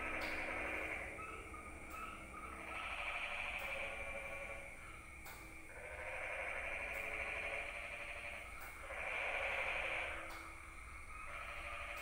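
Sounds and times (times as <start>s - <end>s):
frogs calling in chorus: 0.0s - 12.0s.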